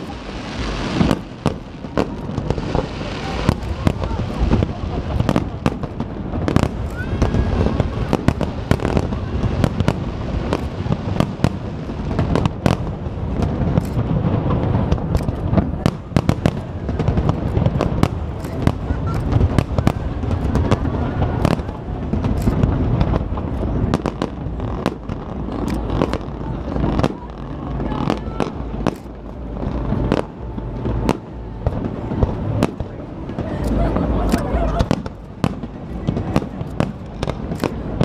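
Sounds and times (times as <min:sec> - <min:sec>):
fireworks bangs and crackles: 0:00.0 - 0:38.0
steady low rumble: 0:00.0 - 0:38.0.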